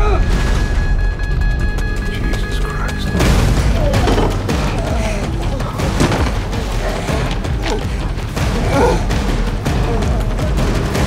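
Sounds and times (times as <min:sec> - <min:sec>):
action film score: 0:00.0 - 0:11.0.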